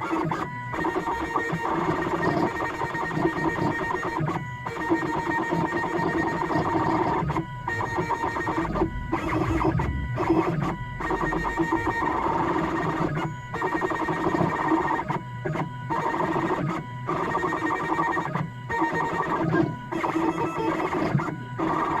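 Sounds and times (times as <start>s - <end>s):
cnc machine whining and chattering: 0.0s - 22.0s.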